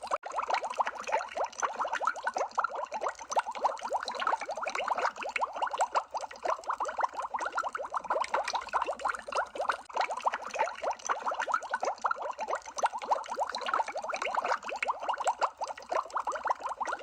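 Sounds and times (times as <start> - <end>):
underwater bubbling: 0.0 - 17.0.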